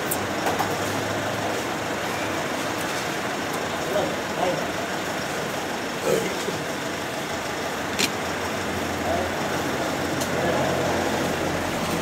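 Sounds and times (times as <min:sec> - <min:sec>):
road traffic noise: 0:00.0 - 0:12.0
vehicle engine running: 0:00.0 - 0:12.0.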